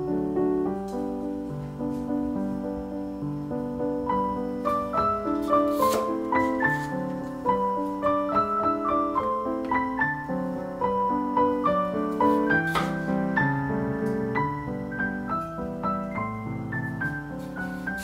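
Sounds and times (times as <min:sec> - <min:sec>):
soft solo piano: 0:00.0 - 0:18.0.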